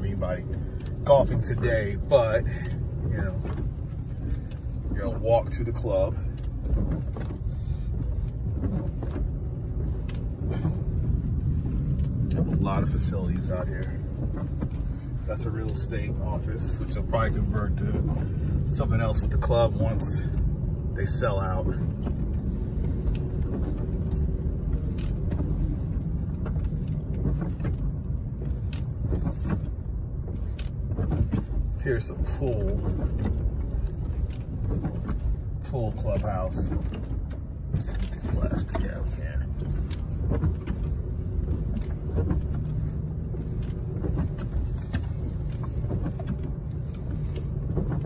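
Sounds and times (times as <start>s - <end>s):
engine and tyre rumble: 0.0s - 48.0s
light ticks: 0.0s - 48.0s.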